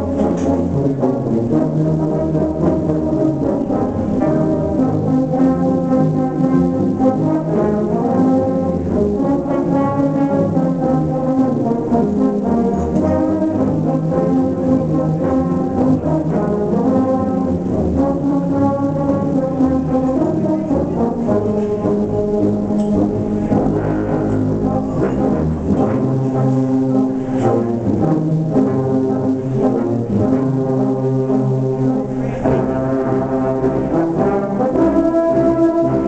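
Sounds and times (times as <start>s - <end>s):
tubas and euphoniums playing carol: 0.0s - 36.0s.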